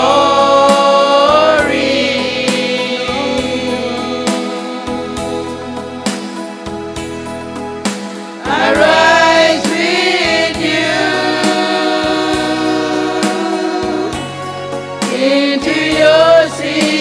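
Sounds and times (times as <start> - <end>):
group singing gospel song: 0.0 - 6.4, 8.4 - 14.4, 15.0 - 17.0
backing music: 0.0 - 17.0.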